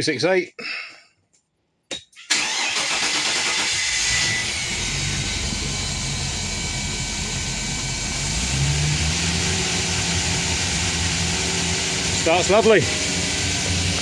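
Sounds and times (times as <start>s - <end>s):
boat engine starting and idling: 2.3s - 14.0s.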